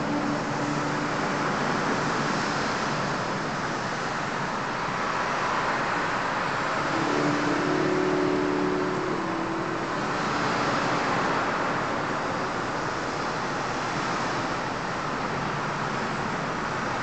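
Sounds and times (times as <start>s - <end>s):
rushing noise over loudspeakers: 0.0s - 17.0s.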